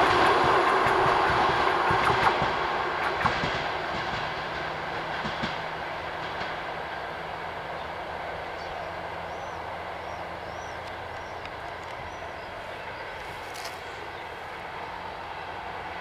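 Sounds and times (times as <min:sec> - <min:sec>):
train coaches rolling on rails: 0:00.0 - 0:16.0.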